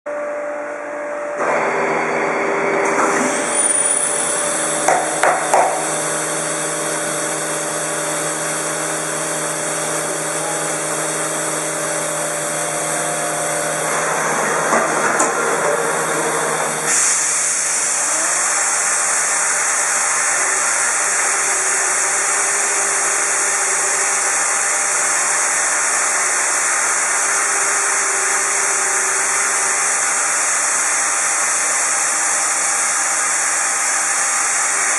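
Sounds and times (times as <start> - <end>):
machine hum: 0.1 - 34.9
router spindle whine: 0.2 - 34.9.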